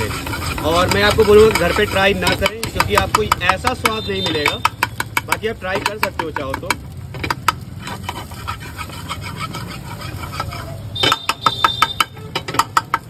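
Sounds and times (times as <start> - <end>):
metal spatula scraping in pan: 0.0 - 13.0.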